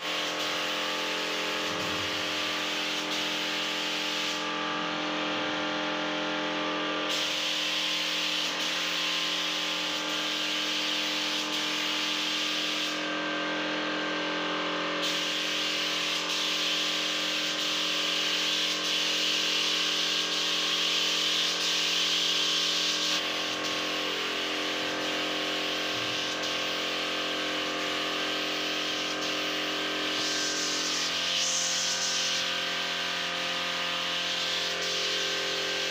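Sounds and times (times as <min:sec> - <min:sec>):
spray gun hissing: 0:00.0 - 0:04.5, 0:07.1 - 0:13.0, 0:15.0 - 0:35.9
steady machine hum: 0:00.0 - 0:35.9.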